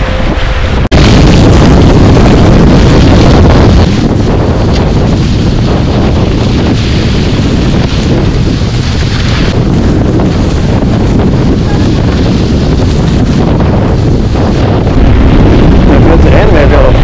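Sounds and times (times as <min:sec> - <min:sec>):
water spraying off hull: 0:00.0 - 0:17.0
wind buffeting microphone: 0:00.0 - 0:17.0.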